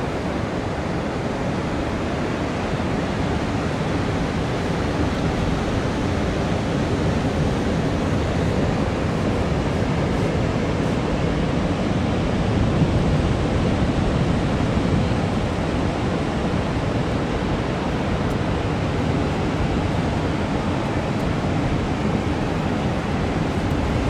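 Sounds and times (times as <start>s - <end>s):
ocean surf breaking: 0.0s - 24.0s
wind on microphone: 0.0s - 24.0s.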